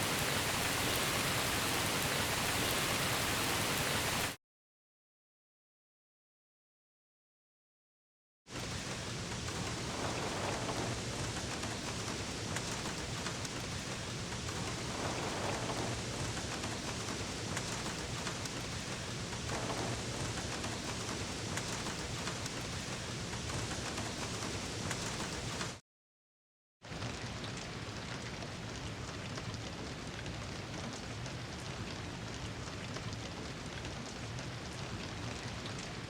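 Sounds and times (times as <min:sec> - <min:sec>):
heavy rain pattering: 0:00.0 - 0:04.4, 0:08.6 - 0:25.8, 0:27.0 - 0:36.0.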